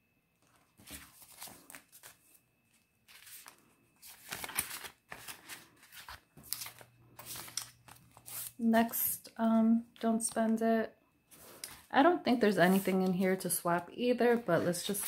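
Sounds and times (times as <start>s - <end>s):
banknotes and plastic pouches rustling: 0.4s - 9.1s, 11.3s - 15.0s.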